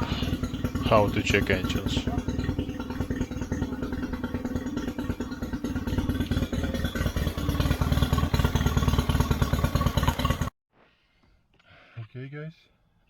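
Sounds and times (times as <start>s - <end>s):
outboard motor running: 0.0s - 10.5s.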